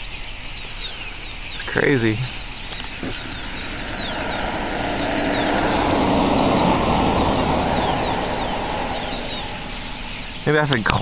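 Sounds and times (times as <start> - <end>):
flock of birds chirping: 0.0 - 11.0
vehicle passing by: 1.9 - 11.0.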